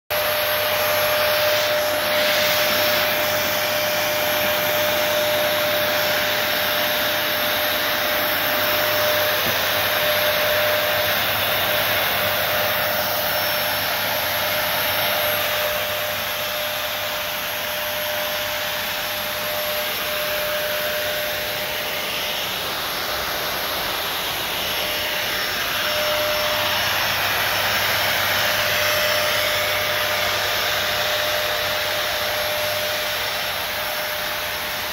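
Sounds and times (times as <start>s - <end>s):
fogger blower rushing air: 0.1s - 34.9s.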